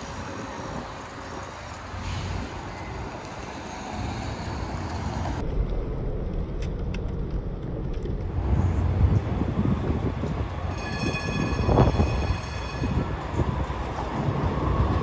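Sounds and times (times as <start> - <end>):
passing road traffic rumble: 0.0 - 15.0.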